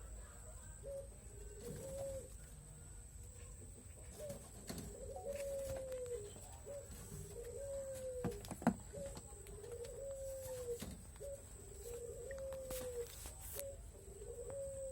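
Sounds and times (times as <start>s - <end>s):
dove cooing: 0.0s - 2.5s, 3.5s - 14.9s.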